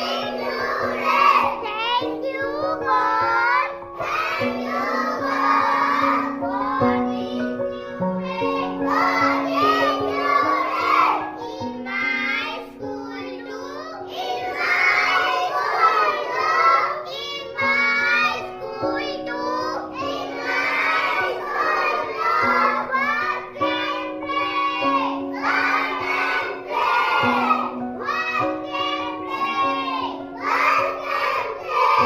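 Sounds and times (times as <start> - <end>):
children singing a prayer: 0.0 - 32.0.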